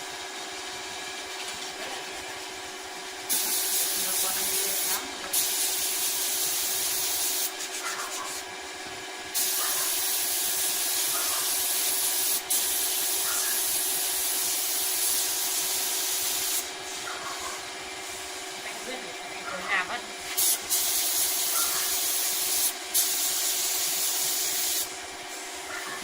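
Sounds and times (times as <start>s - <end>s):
faint motor hum: 0.0s - 26.0s.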